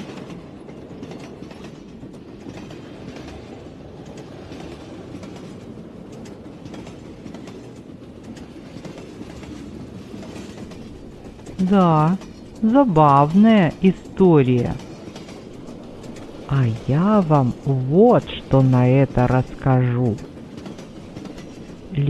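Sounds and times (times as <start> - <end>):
train carriage rumbling: 0.0 - 22.0
train wheels clicking: 0.0 - 22.0.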